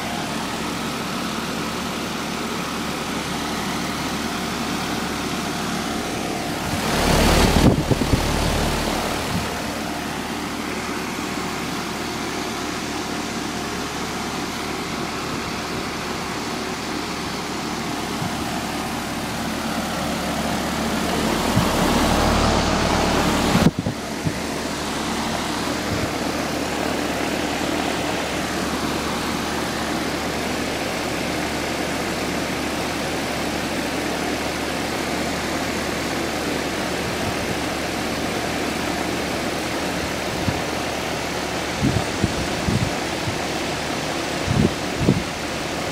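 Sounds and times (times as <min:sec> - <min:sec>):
air conditioner fan running: 0:00.0 - 0:45.9.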